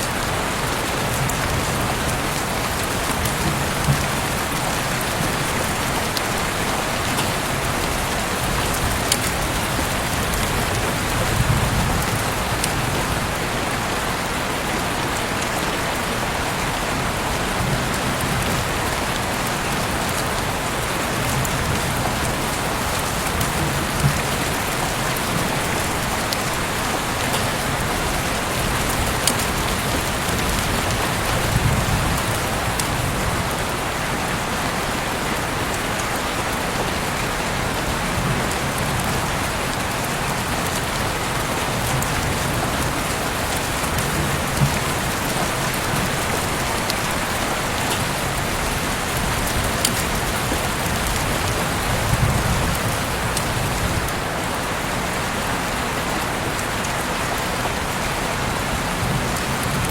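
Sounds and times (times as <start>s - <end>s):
heavy rain hissing: 0.0s - 59.9s
raindrops ticking close by: 0.0s - 59.9s.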